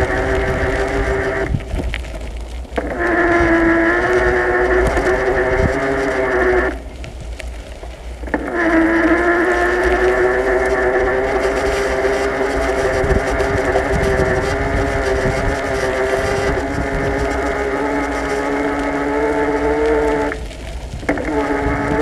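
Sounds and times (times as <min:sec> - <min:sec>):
small motor whining: 0:00.0 - 0:01.9, 0:02.8 - 0:06.9, 0:08.2 - 0:22.0
low rumble: 0:00.0 - 0:22.0.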